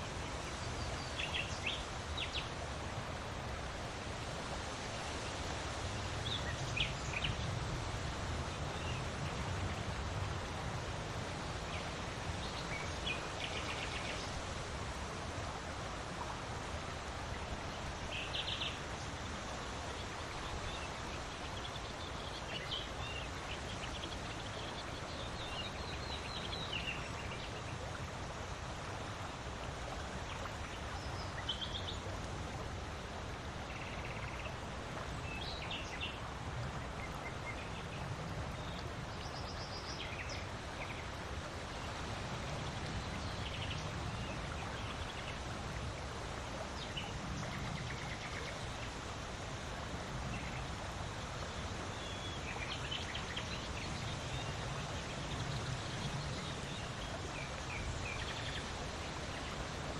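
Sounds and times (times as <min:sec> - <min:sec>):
wind with low rumble: 0:00.0 - 0:59.9.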